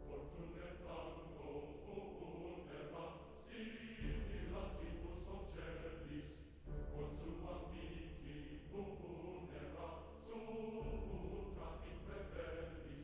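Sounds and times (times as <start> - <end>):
slow chanted voices: 0.0 - 13.0.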